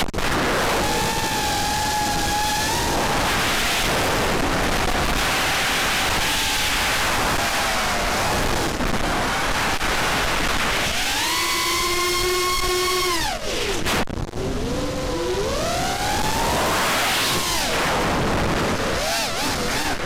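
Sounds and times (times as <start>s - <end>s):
rushing wind and propeller wash: 0.0s - 20.0s
drone motors whining: 0.1s - 20.0s.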